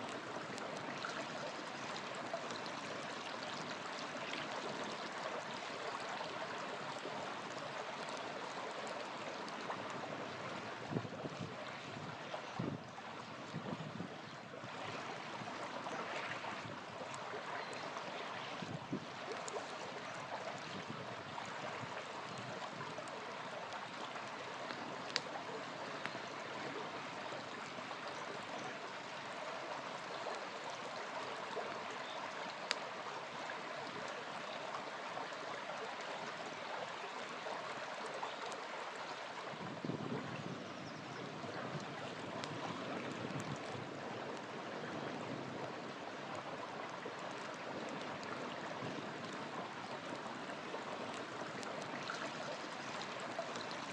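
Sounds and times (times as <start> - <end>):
campfire crackling: 0.0 - 12.2, 14.7 - 39.5, 41.6 - 53.9
river flowing: 0.0 - 53.9.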